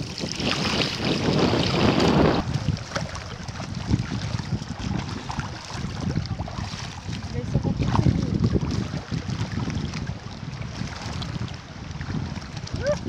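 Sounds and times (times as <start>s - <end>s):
hands paddling water: 0.0s - 13.0s
seawater splashing: 0.0s - 13.0s
wind buffeting microphone: 0.0s - 13.0s.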